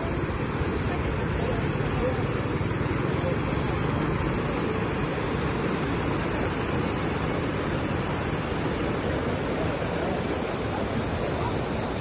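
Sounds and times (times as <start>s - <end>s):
floodwater rushing over road: 0.0s - 12.0s.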